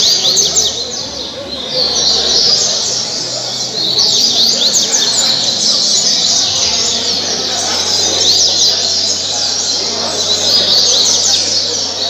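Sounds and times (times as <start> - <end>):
bird singing high chirps: 0.0 - 12.0.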